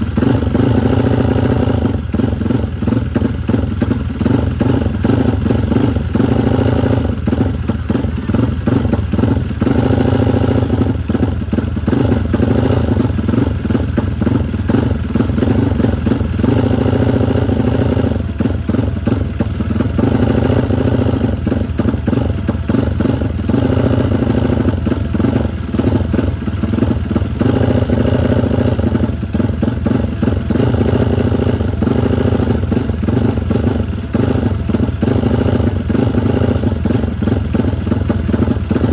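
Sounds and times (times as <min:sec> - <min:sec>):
single-cylinder race engine running: 0:00.0 - 0:38.9.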